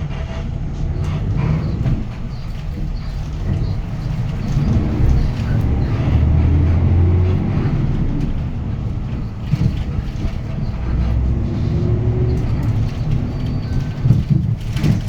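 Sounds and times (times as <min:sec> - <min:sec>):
bus engine droning: 0:00.0 - 0:15.0
road noise: 0:00.0 - 0:15.0
rattling knocks from body: 0:01.4 - 0:15.0.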